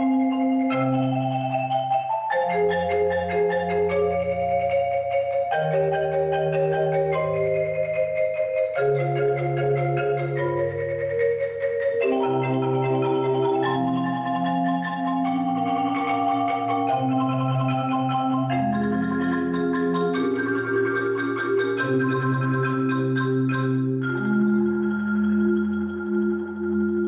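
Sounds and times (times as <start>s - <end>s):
marimba ensemble playing: 0.0s - 27.0s.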